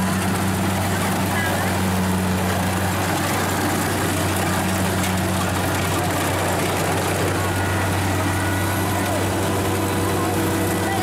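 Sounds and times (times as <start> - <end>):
combine harvester droning: 0.0 - 11.0.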